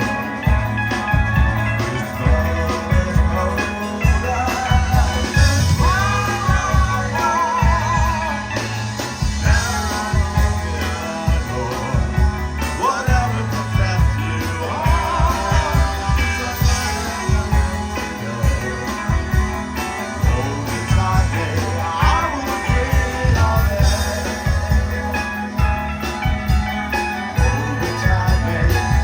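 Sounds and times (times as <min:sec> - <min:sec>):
lead guitar bending with vibrato: 0:00.0 - 0:29.0
rock band instrumental: 0:00.0 - 0:29.0.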